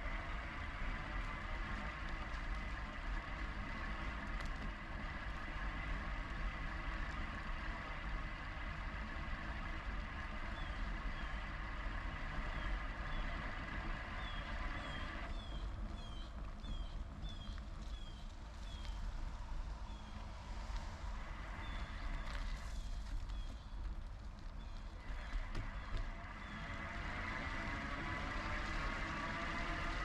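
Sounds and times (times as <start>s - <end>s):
thin steady whine: 0.0s - 30.0s
wind and rolling noise: 0.0s - 30.0s.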